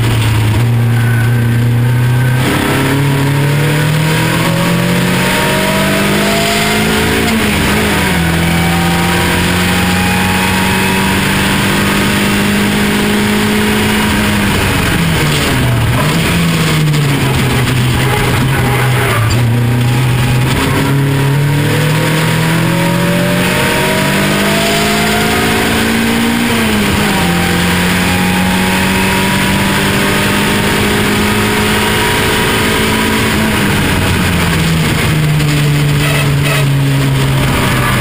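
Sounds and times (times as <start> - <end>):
racing car engine accelerating: 0.0 - 38.0.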